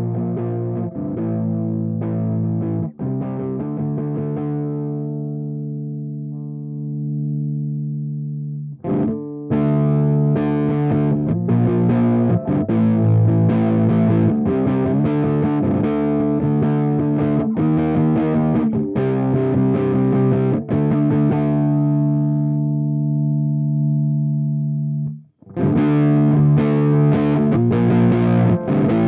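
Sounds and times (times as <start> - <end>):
distorted electric guitar: 0.0 - 29.0.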